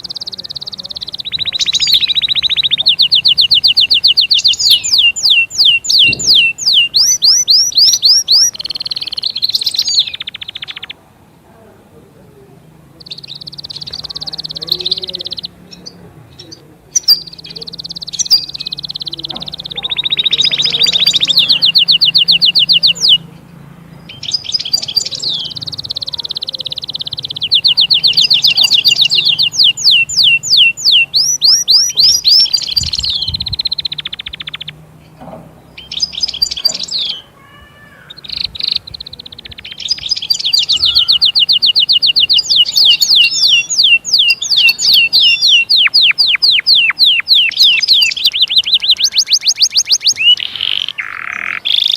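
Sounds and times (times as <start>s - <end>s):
finch twittering and trilling: 0.0s - 11.0s, 12.9s - 51.9s.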